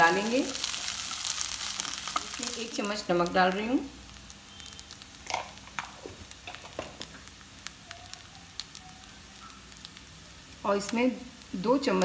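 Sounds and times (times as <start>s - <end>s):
food sizzling in a frying pan: 0.0s - 12.0s
small crackles and pops: 0.0s - 12.0s.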